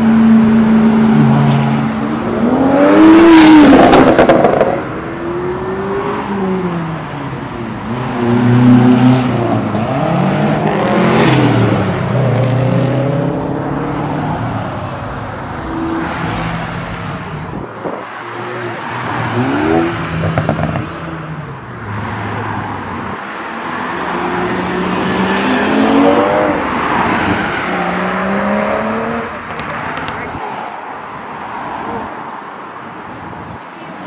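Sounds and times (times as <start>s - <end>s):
car engines revving past: 0.0s - 30.4s.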